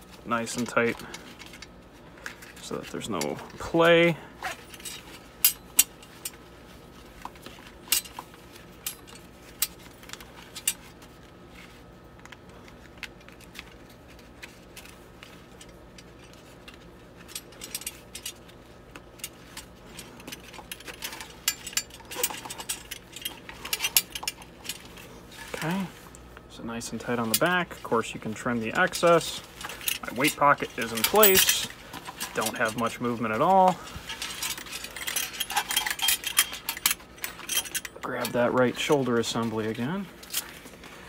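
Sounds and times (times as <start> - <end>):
metal hardware clicking and clinking: 0.6 - 6.4, 7.2 - 10.8, 15.6 - 25.9, 26.9 - 40.6.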